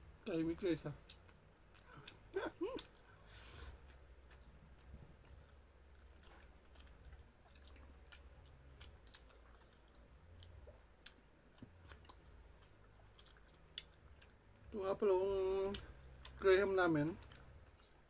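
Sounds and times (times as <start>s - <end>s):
low room hum: 0.0s - 18.0s
people chewing food: 0.0s - 18.0s.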